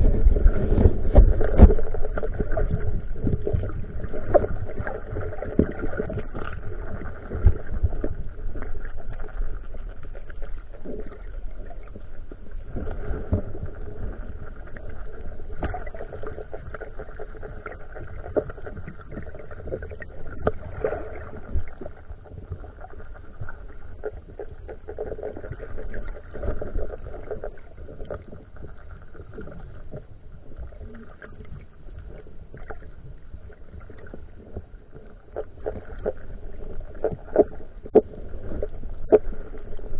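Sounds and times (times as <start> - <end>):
underwater low rumble: 0.0 - 39.9.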